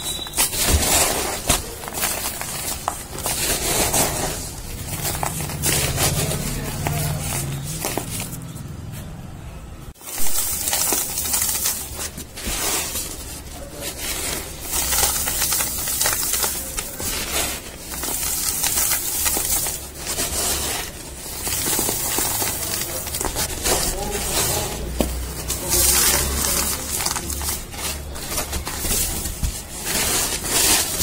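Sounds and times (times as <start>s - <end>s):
cardboard crushed by hand: 0.0s - 8.4s, 10.0s - 31.0s.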